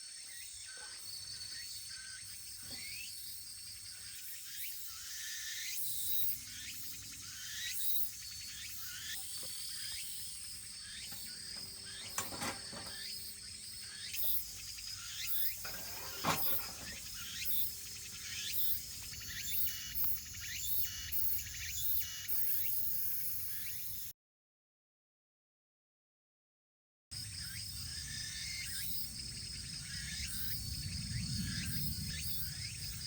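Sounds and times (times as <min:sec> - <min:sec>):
crickets and insects chirping: 0:00.0 - 0:24.0, 0:27.2 - 0:33.0.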